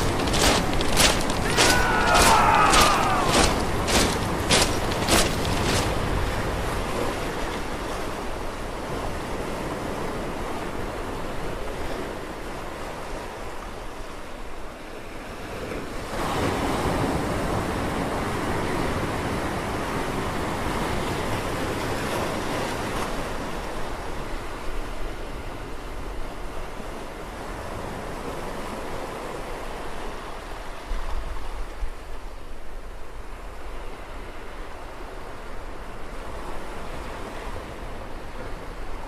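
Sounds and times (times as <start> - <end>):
surf washing over rocks: 0.0 - 32.1.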